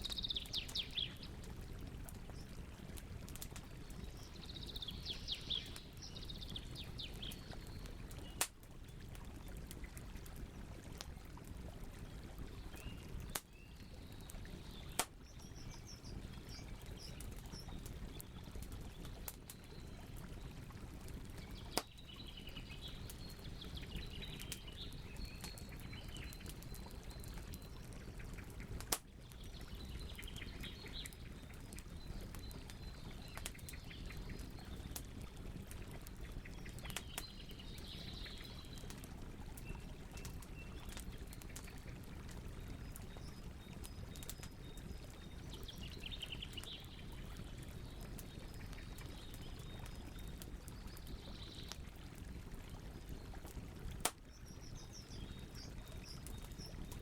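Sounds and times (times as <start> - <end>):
campfire crackling and hissing: 0.0 - 57.0.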